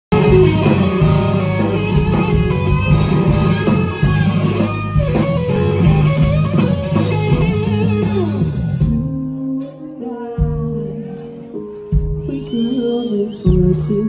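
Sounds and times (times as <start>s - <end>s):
electric guitar lead: 0.0s - 14.0s
drums and cymbals: 0.1s - 11.3s, 11.9s - 14.0s.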